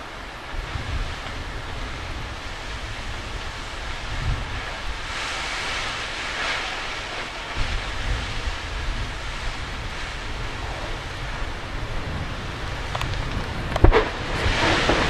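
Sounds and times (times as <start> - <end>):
fire roaring: 0.0 - 15.0
wind on microphone: 0.0 - 15.0.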